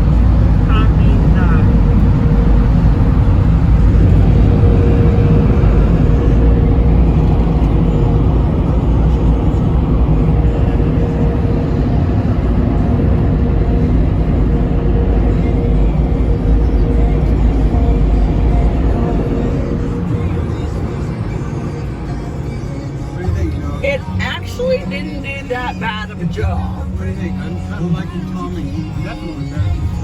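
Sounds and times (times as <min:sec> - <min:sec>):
car wash machinery rumbling: 0:00.0 - 0:30.0.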